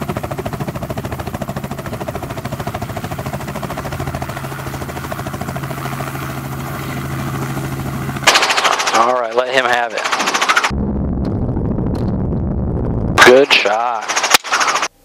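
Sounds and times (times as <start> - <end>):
helicopter rotor blade chop: 0.0 - 10.8, 12.2 - 15.0
helicopter engine drone: 0.0 - 15.0.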